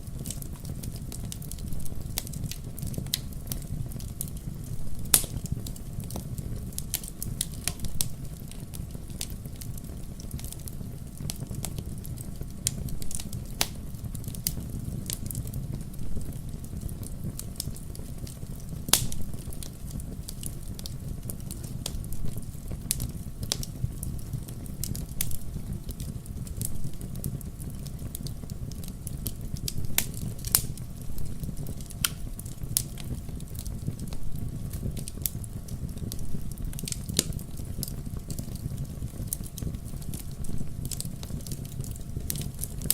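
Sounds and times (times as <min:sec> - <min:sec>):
low rumble of burning fire: 0:00.0 - 0:42.9
wood fire crackling and popping: 0:00.0 - 0:42.9.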